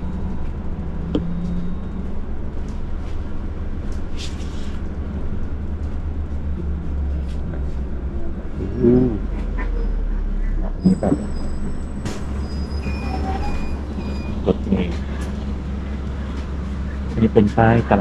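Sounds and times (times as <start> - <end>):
bus engine rumble and road noise: 0.0 - 18.0.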